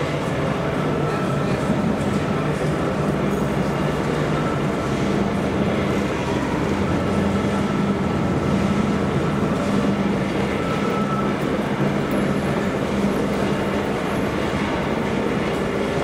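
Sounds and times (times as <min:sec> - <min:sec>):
machinery hum with low drone: 0:00.0 - 0:16.0.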